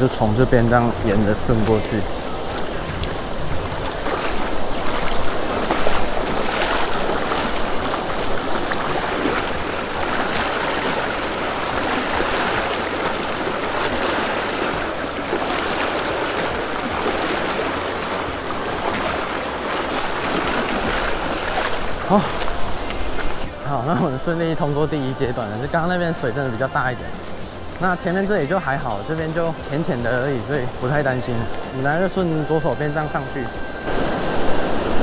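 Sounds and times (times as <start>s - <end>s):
splashing of wading: 0.0s - 35.0s
stream rushing: 0.0s - 35.0s.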